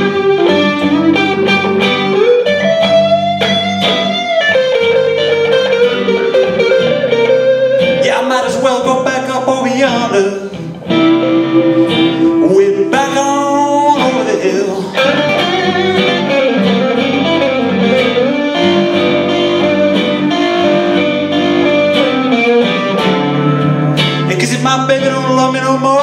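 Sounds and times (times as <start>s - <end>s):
lead electric guitar bending notes: 0.0s - 26.0s
rhythm electric guitar: 0.0s - 26.0s.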